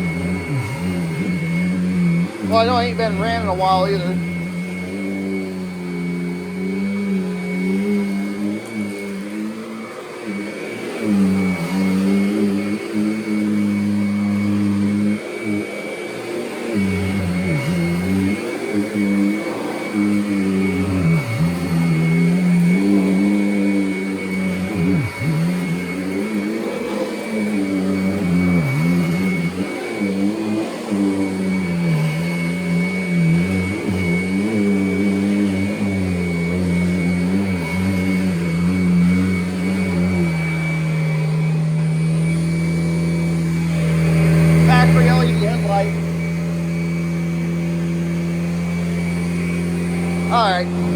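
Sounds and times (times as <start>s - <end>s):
upright vacuum cleaner running: 0.0s - 50.9s.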